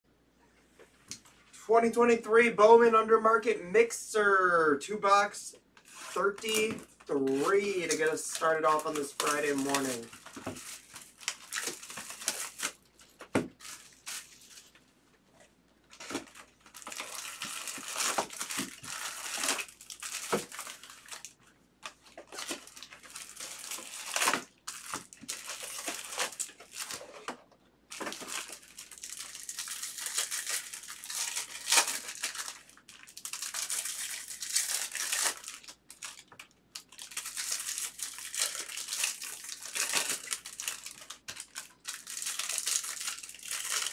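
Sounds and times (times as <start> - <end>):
foil wrappers crinkling and tearing: 5.8 - 14.8, 15.9 - 43.9.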